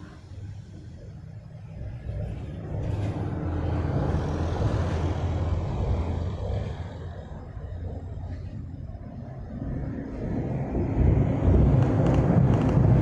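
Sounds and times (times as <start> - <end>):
vehicle rumbling over bridge: 0.0 - 13.0.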